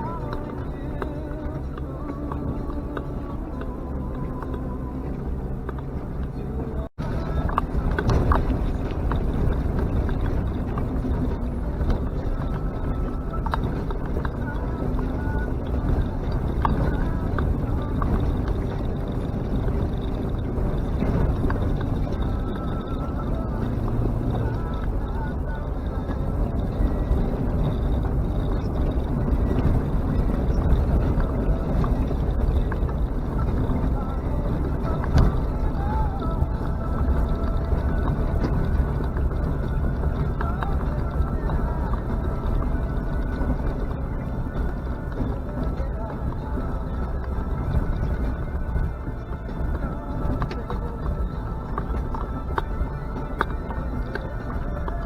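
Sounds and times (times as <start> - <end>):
off-road vehicle engine rumble: 0.0 - 55.0.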